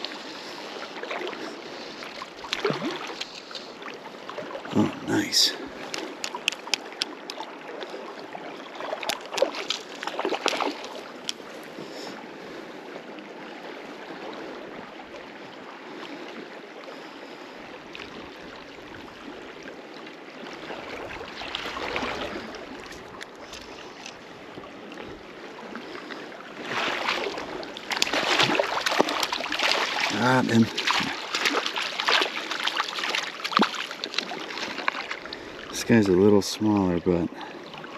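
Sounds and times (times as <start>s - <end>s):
river water rushing: 0.0s - 15.8s, 17.9s - 37.9s.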